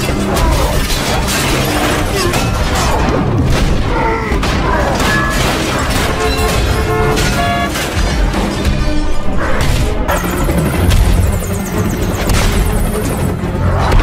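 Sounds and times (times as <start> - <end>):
dramatic orchestral score: 0.0 - 14.0.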